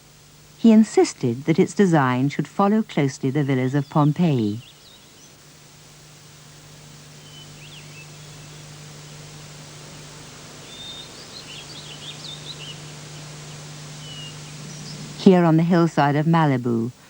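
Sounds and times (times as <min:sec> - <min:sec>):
low hum: 0:00.0 - 0:17.0
steady hiss: 0:00.0 - 0:17.0
small birds chirping: 0:02.4 - 0:05.5, 0:06.2 - 0:17.0.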